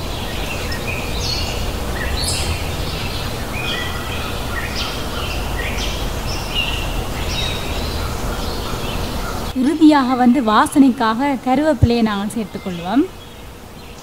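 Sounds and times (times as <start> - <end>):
low background rumble: 0.0 - 13.8
small birds chirping: 0.0 - 14.0.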